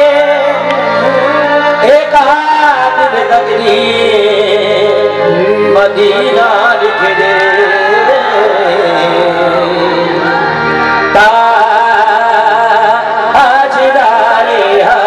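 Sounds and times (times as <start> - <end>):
harmonium chords: 0.0 - 15.0
men singing: 0.0 - 15.0.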